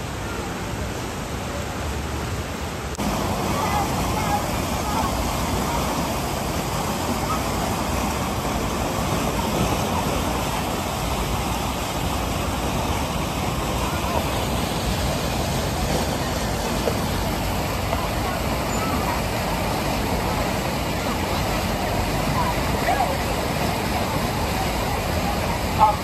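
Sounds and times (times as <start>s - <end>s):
churning water rushing: 0.0s - 26.0s
faint voices: 0.0s - 26.0s.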